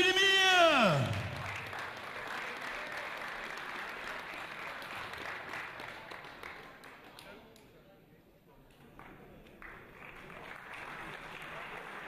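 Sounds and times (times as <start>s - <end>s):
crowd applauding: 0.0s - 7.3s, 9.0s - 12.0s.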